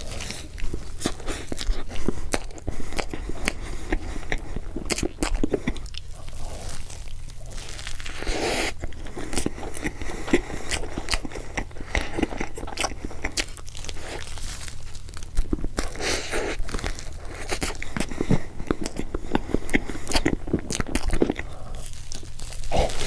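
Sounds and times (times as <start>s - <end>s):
wet chewing and mouth clicks: 0.0s - 23.0s.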